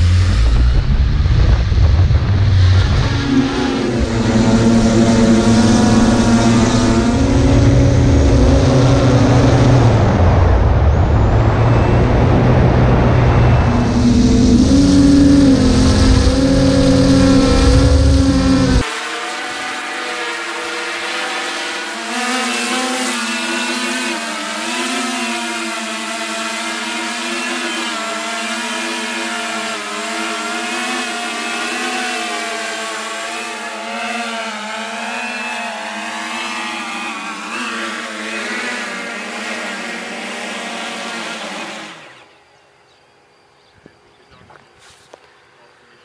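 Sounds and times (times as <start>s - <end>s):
drone propellers humming: 0.0s - 43.3s.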